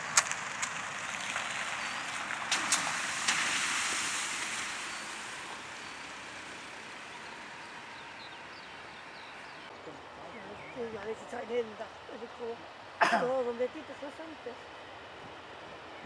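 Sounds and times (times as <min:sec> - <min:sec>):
distant jet engine rush: 0:00.0 - 0:16.0.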